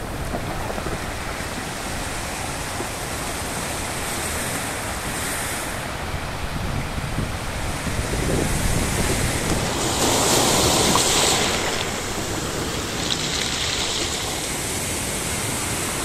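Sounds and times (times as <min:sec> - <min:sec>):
sea surf breaking: 0:00.0 - 0:16.0
wind: 0:00.0 - 0:16.0.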